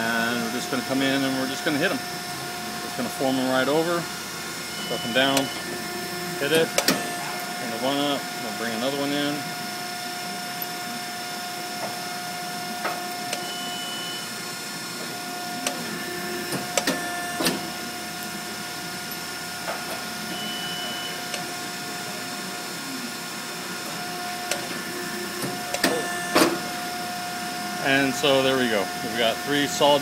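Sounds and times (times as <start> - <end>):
machine electrical hum: 0.0 - 30.0.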